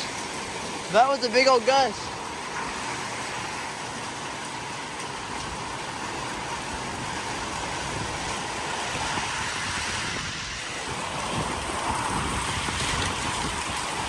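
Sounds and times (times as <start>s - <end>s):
wind gusting with rain: 0.0s - 14.0s.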